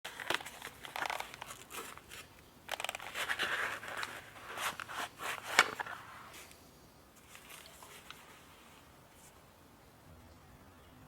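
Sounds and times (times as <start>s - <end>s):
rustling and crinkling: 0.1s - 9.5s.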